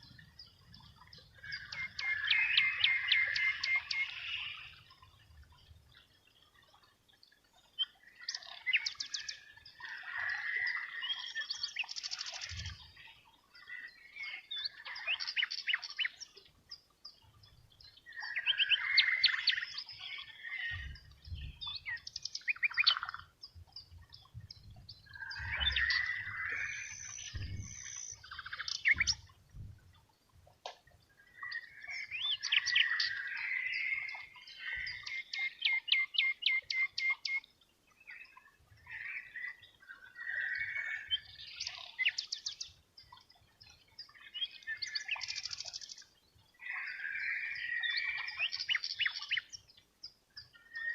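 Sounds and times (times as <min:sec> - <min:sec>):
bird chirping and trilling: 0:00.0 - 0:05.1, 0:07.6 - 0:30.0, 0:31.2 - 0:49.8.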